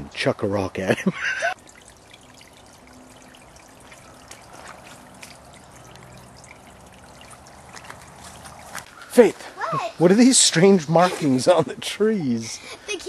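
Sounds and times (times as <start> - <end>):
water trickling: 0.6 - 12.4.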